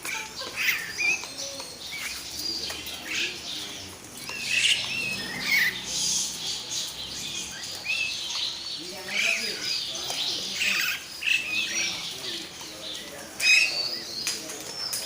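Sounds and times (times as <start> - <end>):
songbirds chirping and calling: 0.0 - 15.0.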